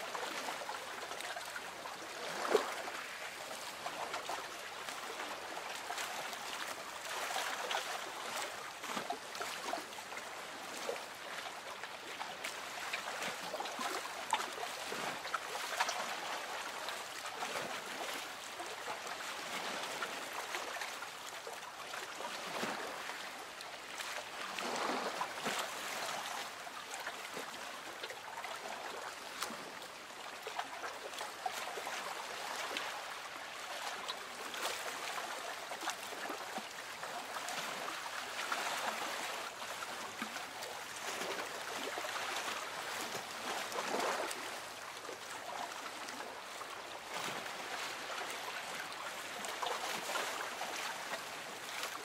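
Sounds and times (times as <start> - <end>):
small water splashes: 0.0 - 52.0
water lapping against boat hull: 0.1 - 52.0.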